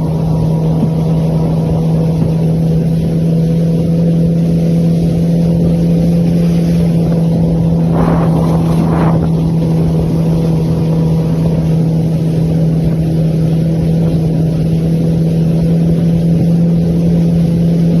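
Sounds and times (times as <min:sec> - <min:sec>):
jet ski engine drone: 0:00.0 - 0:18.0.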